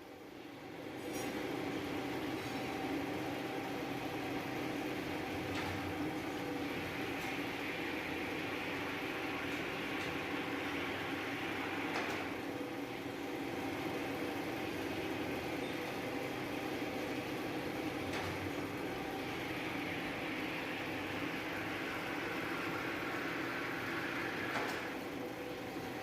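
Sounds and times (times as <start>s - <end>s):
planing machine drone: 1.0s - 26.0s.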